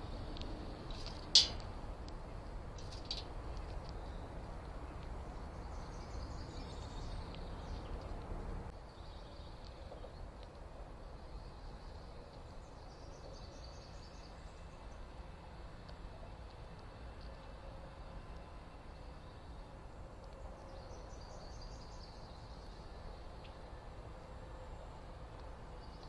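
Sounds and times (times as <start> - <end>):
low outdoor background rumble: 0.0 - 26.0
faint songbird chirps: 3.8 - 26.0.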